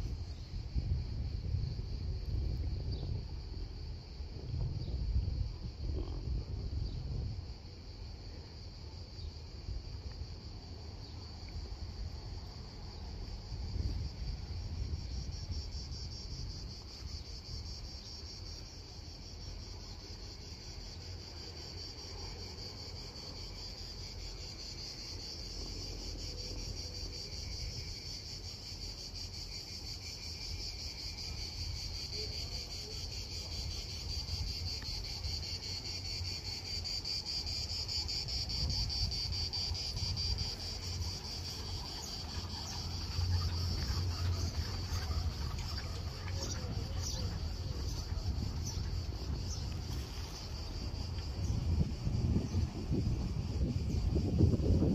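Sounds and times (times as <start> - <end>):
cicadas buzzing: 0.0 - 54.9.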